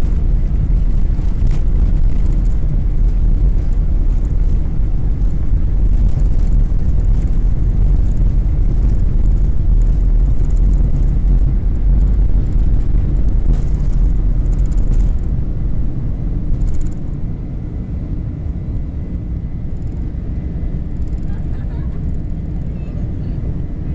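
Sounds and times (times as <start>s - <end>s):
heavy low rumble: 0.0s - 23.9s
jet engines at takeoff power: 0.0s - 23.9s.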